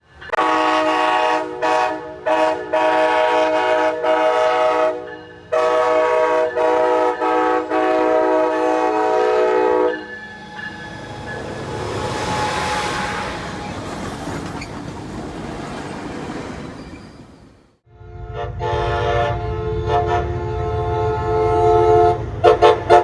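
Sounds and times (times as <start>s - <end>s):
locomotive air horn blasts: 0.3s - 13.7s, 17.9s - 23.0s.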